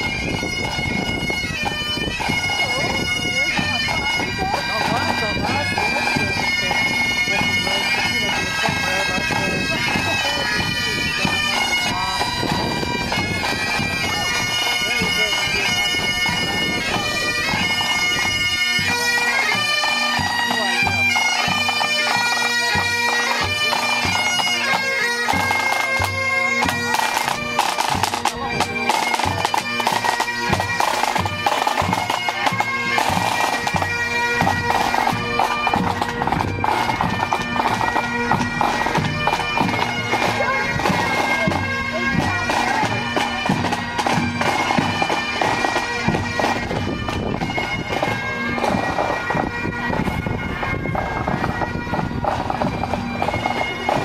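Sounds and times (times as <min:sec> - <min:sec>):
bagpipes playing a tune: 0:00.0 - 0:54.0
drumming: 0:01.6 - 0:54.0.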